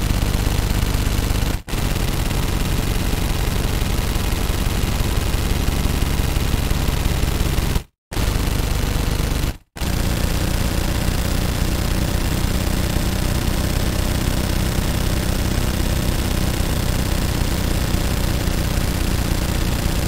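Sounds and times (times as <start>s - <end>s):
automatic gunfire: 0.0s - 20.0s.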